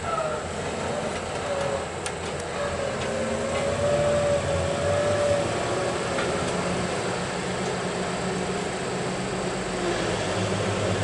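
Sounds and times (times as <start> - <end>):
diesel engines droning: 0.0 - 11.0.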